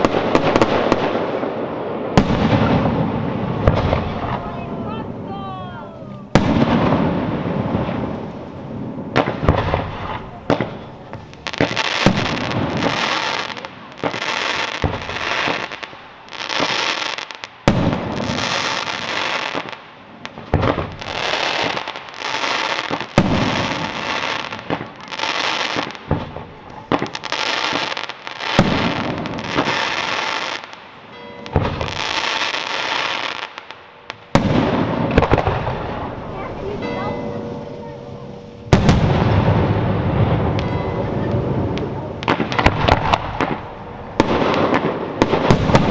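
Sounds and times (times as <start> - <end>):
fireworks bursting: 0.0 - 45.9.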